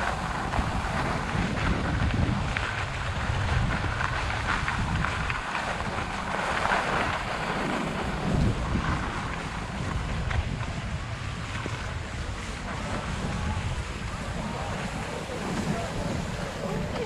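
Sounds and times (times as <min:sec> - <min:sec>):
skis scraping on snow: 0:00.0 - 0:17.0
wind on microphone: 0:00.0 - 0:17.0.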